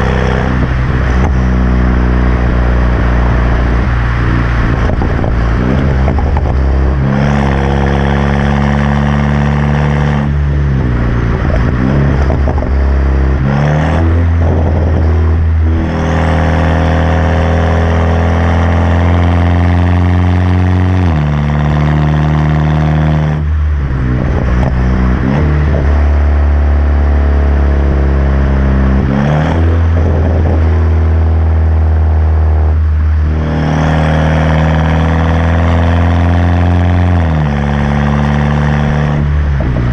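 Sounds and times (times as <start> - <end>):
loud car engine running: 0.0 - 39.9.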